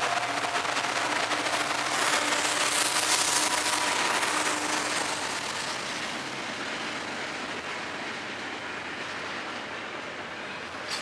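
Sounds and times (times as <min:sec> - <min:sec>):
freight train wheels rushing on rail: 0:00.0 - 0:11.0.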